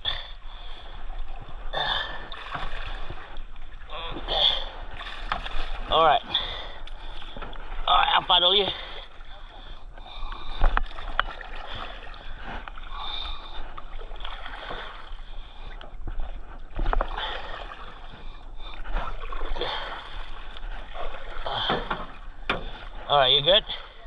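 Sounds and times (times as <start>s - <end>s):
paddle splashing in water: 0.0s - 24.0s.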